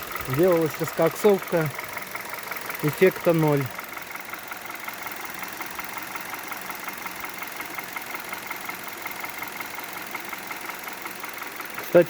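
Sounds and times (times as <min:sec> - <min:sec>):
engine idling with knock: 0:00.0 - 0:12.0.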